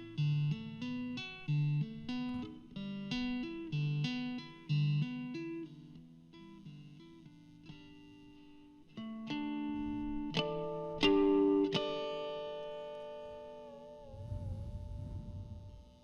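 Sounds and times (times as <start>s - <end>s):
plucked guitar picking notes: 0.0s - 16.0s.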